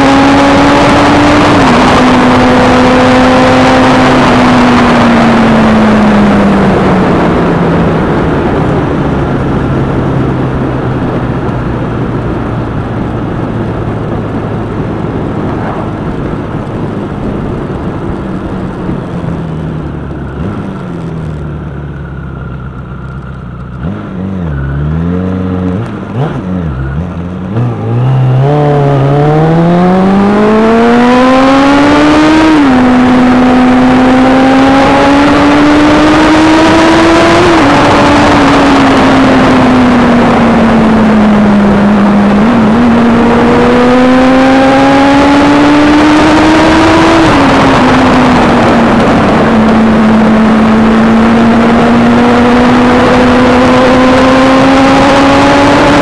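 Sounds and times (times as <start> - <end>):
wind rushing over microphone: 0.0 - 21.4, 25.0 - 56.0
motorcycle engine revving: 0.0 - 56.0.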